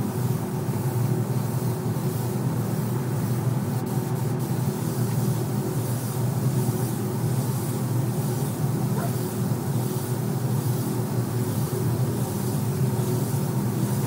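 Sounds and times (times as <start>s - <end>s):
spray gun hissing: 0.0s - 14.0s
ventilation fans humming: 0.0s - 14.0s.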